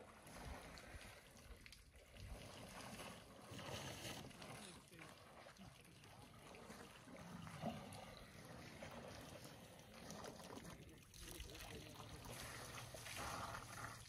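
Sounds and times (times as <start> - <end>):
soft water sounds: 0.0 - 14.0.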